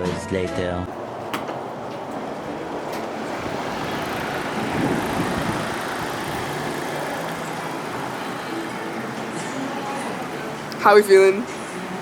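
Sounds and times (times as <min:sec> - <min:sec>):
road traffic rushing: 0:00.8 - 0:12.0
vehicle passing: 0:00.9 - 0:12.0.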